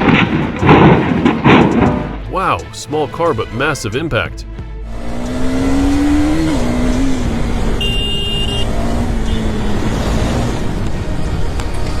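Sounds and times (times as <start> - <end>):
road noise: 2.2 - 12.0.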